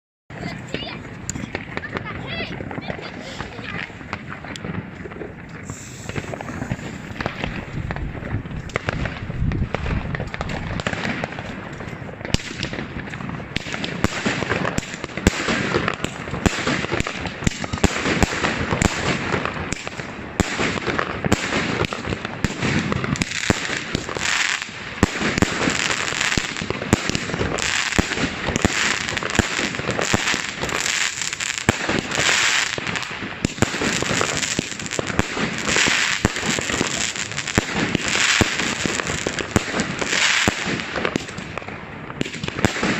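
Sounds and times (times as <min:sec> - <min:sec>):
fireworks and firecrackers crackling: 0:00.3 - 0:42.9
loud firework reports: 0:00.3 - 0:42.9.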